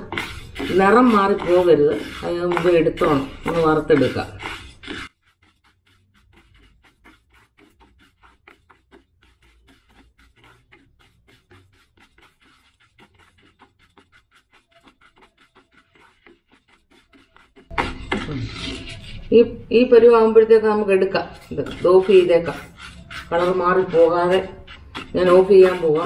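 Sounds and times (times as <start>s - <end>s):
spatula scraping a pan: 0.0s - 26.0s.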